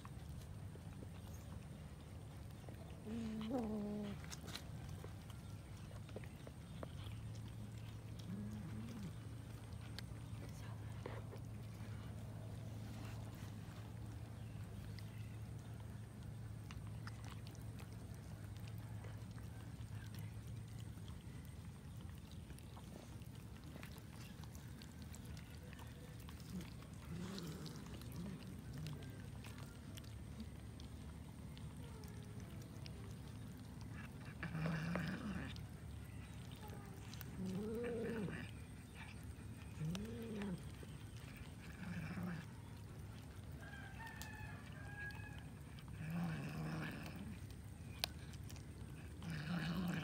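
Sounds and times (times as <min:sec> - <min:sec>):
cats chewing and tearing meat: 0:00.0 - 0:50.0
cat growling: 0:02.2 - 0:05.2, 0:06.8 - 0:12.2, 0:16.6 - 0:43.5, 0:45.0 - 0:50.0.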